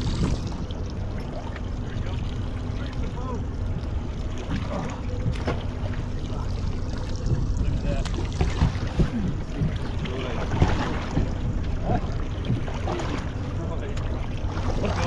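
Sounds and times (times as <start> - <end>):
boat engine idling: 0.0 - 15.0
water: 0.0 - 15.0
wind: 0.0 - 15.0.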